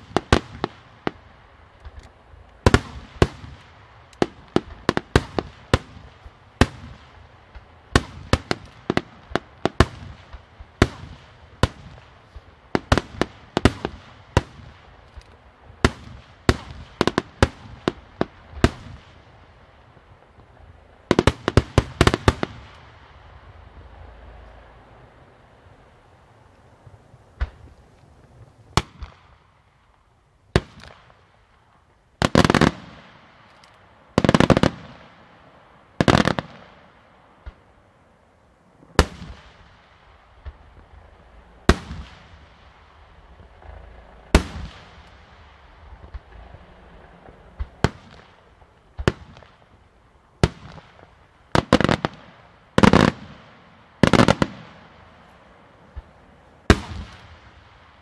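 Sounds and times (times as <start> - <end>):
firework bangs: 0.0 - 26.0, 27.3 - 37.9, 38.8 - 58.0.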